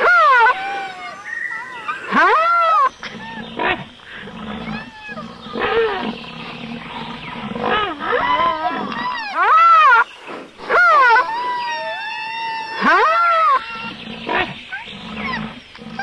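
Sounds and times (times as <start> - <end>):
loud animal calls: 0.0 - 16.0.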